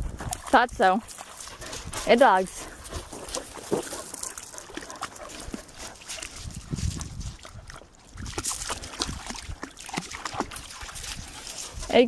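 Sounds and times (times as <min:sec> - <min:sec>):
dogs moving about: 0:00.1 - 0:09.1, 0:09.9 - 0:12.0.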